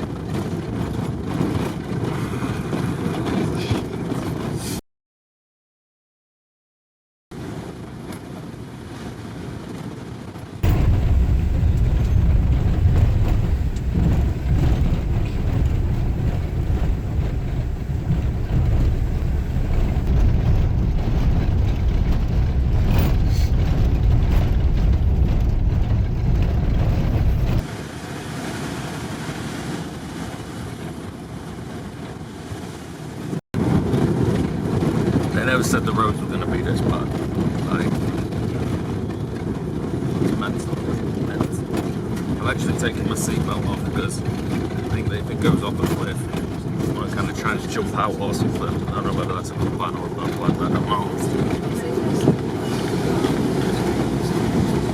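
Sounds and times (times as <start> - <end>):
bus engine and road rumble: 0.0 - 4.8, 7.4 - 54.9.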